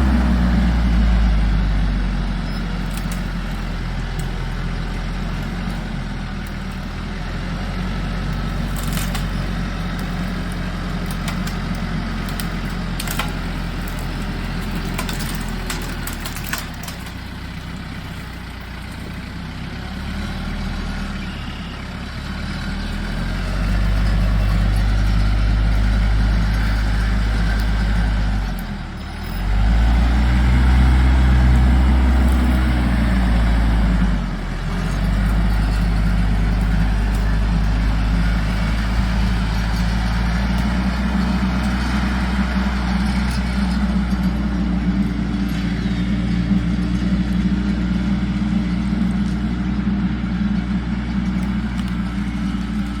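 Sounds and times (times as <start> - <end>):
heavy engine revving: 0.0 - 53.0.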